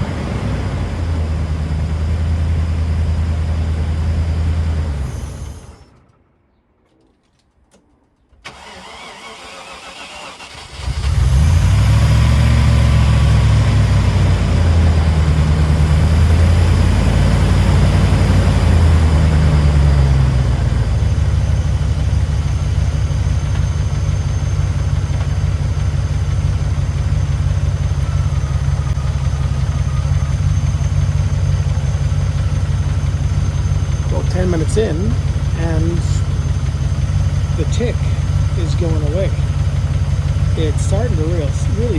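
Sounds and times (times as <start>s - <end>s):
car engine cranking and idling: 0.0s - 41.9s.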